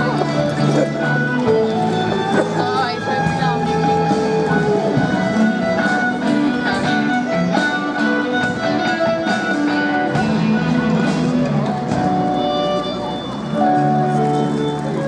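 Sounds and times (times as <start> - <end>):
bowed violin: 0.0 - 15.0
electric guitar: 0.0 - 15.0
rock band playing: 0.0 - 15.0.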